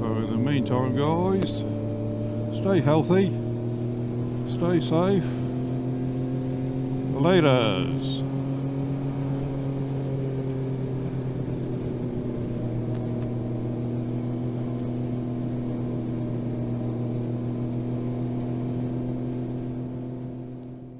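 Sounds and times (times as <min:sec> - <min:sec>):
motorcycle engine cruising: 0:00.0 - 0:20.9
road and wind noise: 0:00.0 - 0:20.9.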